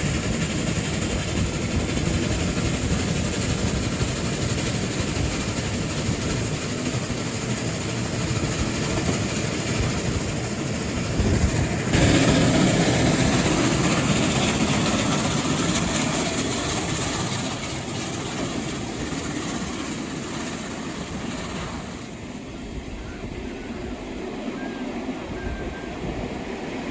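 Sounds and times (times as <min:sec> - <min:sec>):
train carriages rumbling on rails: 0:00.0 - 0:26.9.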